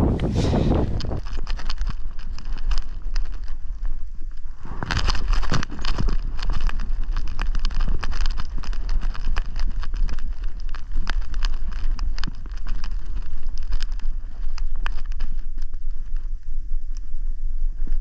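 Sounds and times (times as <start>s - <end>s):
footsteps crunching on rocky path: 0.0s - 16.3s
wind buffeting microphone: 0.0s - 18.0s.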